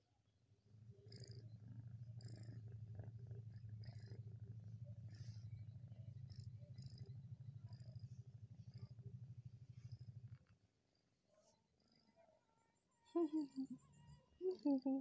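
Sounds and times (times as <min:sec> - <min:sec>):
cat purring: 0:00.6 - 0:15.0.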